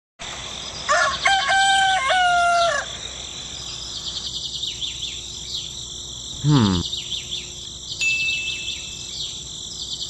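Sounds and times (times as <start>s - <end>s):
long level bird call: 0.6s - 10.0s.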